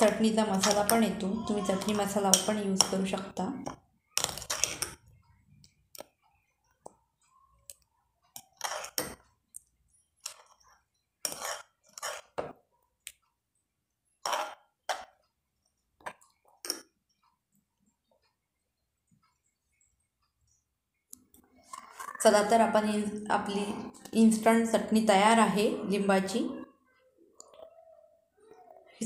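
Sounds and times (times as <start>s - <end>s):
spoon stirring paste in glass bowl: 0.0s - 27.7s.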